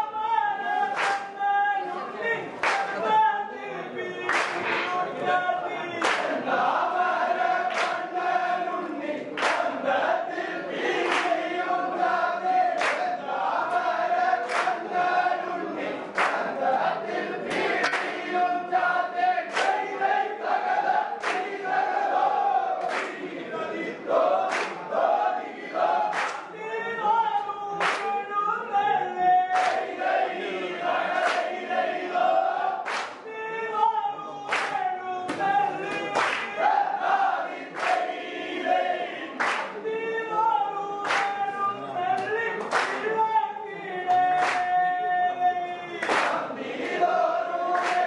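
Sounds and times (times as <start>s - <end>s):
group singing in unison: 0.0s - 48.0s.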